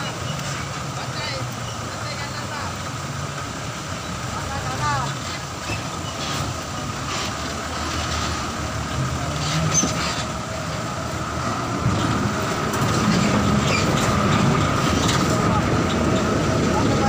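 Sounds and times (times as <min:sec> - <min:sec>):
truck diesel engine running: 0:00.0 - 0:17.0
water washing around tyres: 0:00.0 - 0:17.0.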